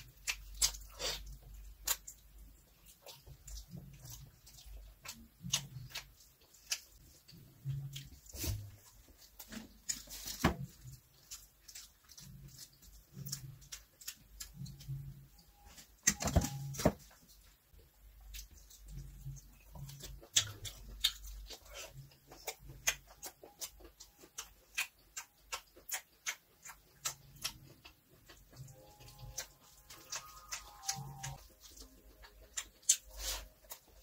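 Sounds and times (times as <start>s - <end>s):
chewing and lip smacks: 0.0s - 34.0s.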